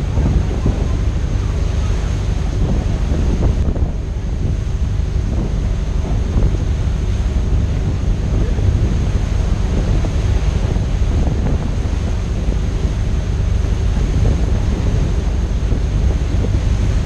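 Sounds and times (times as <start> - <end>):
rush of sea water: 0.0 - 17.0
wind buffeting microphone: 0.0 - 17.0.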